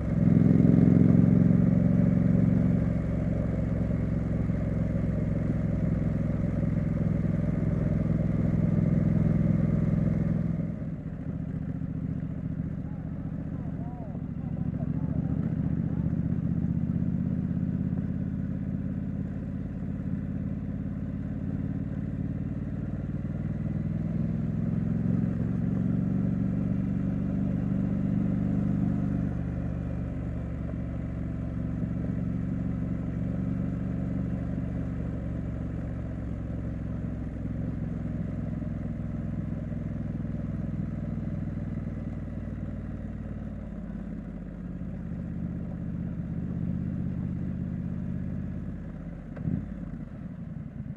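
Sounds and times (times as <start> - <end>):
motorcycle engine and exhaust: 0.0 - 50.9.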